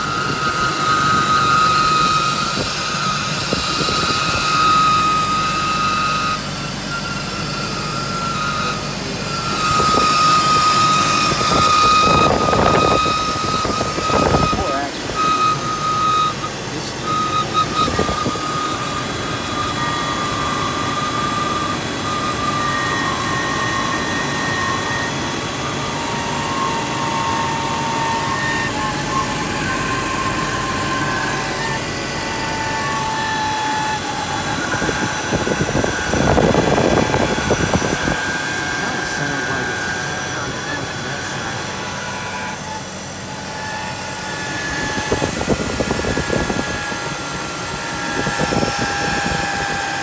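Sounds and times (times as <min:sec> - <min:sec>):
faint whistling tones: 0:00.0 - 0:50.0.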